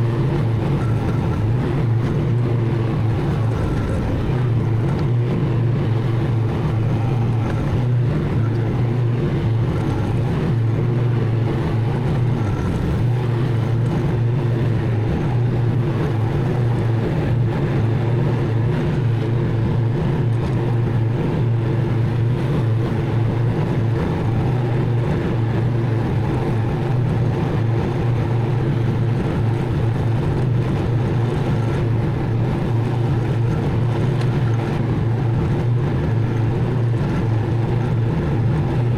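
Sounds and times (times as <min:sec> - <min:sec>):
mower engine droning: 0:00.0 - 0:38.9.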